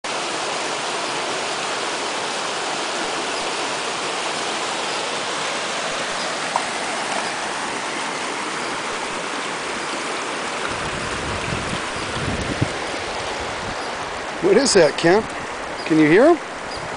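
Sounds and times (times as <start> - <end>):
stream splashing over rocks: 0.0 - 16.9.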